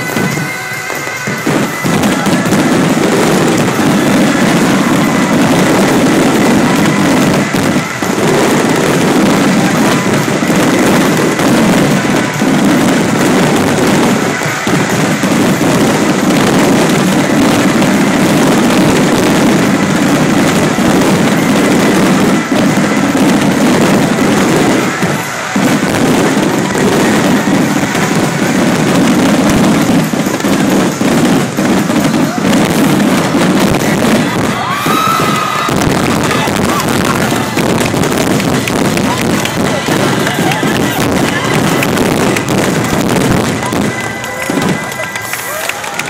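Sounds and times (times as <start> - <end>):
firework shells bursting: 0.0 - 46.0.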